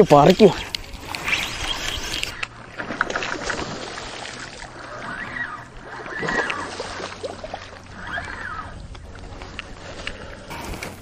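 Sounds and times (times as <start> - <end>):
fish thrashing and splashing: 0.1 - 11.0.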